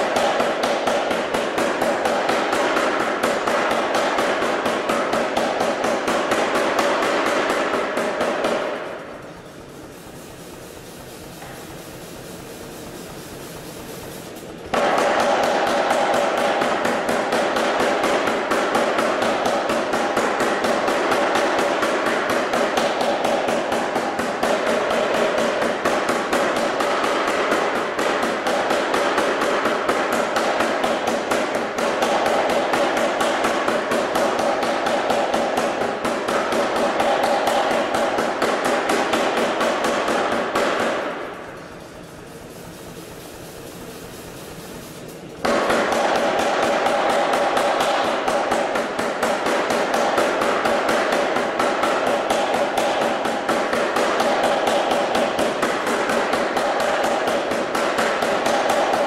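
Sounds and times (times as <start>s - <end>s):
air hammer pounding hot steel: 0.0s - 59.0s.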